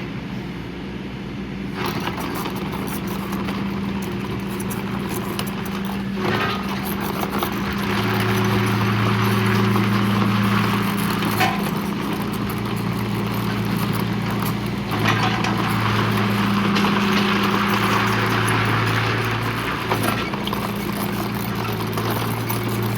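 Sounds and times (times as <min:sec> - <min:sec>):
excavator diesel engine running: 0:01.5 - 0:22.9.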